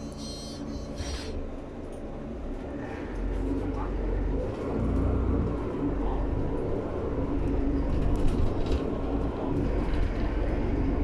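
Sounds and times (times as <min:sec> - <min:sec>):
metro train rumbling inside carriage: 0:00.0 - 0:11.0.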